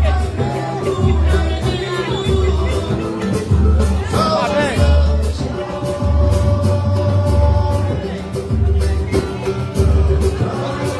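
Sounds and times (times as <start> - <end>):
live band playing: 0.0 - 10.9.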